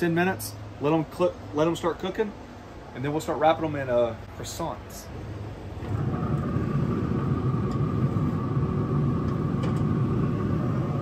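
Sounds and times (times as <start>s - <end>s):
fan humming with whine: 0.0s - 11.0s.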